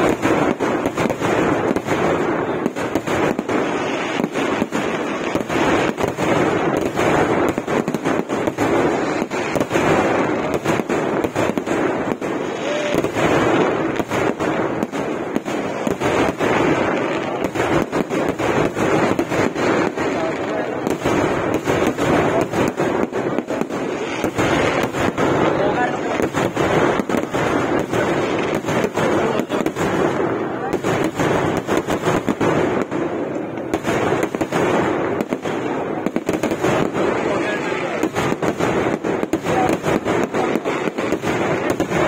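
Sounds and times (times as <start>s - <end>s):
firecracker bangs and crackling: 0.0s - 42.0s.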